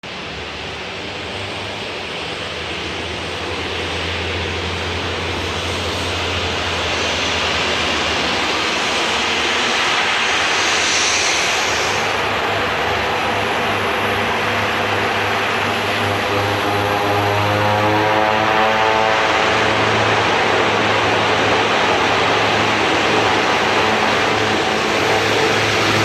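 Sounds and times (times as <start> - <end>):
turboprop airplane engines: 0.0 - 26.0.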